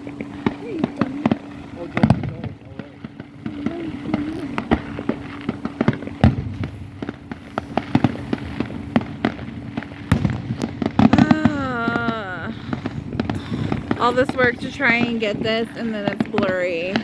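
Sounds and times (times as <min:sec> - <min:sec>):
fireworks bangs and crackles: 0:00.0 - 0:17.0
steady hum: 0:00.0 - 0:17.0.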